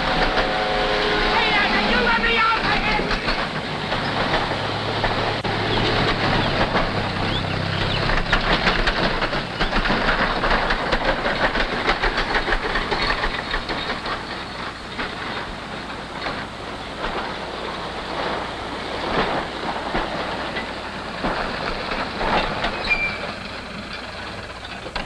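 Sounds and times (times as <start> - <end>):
tractor engine clattering: 1.5 - 25.0.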